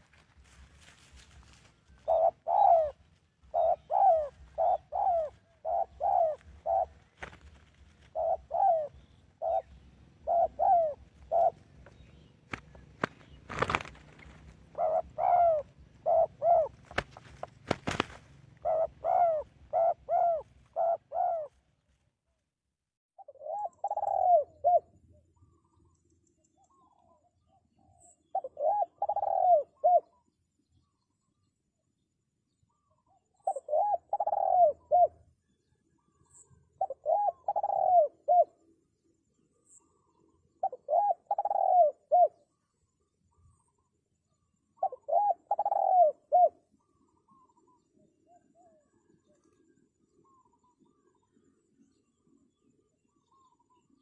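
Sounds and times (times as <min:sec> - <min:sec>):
dove cooing: 0:00.0 - 0:21.8, 0:23.2 - 0:25.9, 0:26.6 - 0:30.3, 0:32.7 - 0:38.8, 0:39.6 - 0:42.6, 0:43.3 - 0:54.0.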